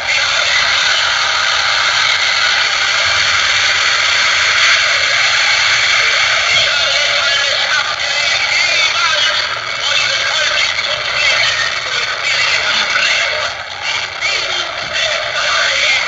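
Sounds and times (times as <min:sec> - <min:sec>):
loud static hiss: 0:00.0 - 0:16.0.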